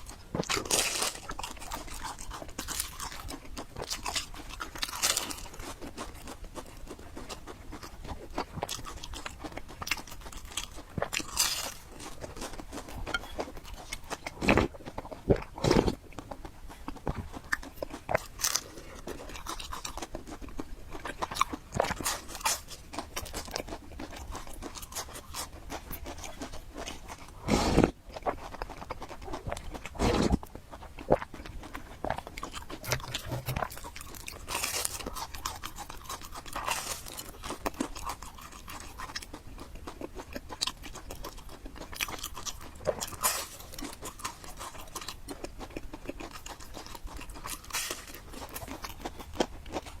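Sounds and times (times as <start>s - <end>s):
person chewing and slurping noodles: 0.0s - 50.0s.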